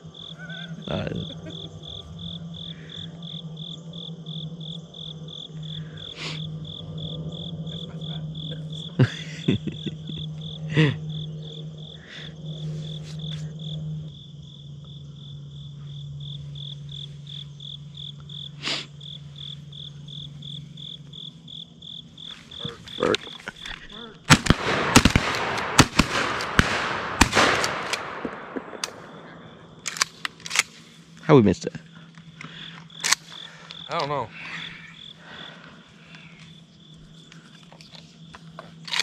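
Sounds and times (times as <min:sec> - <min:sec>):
insects chirping: 0:00.0 - 0:39.0.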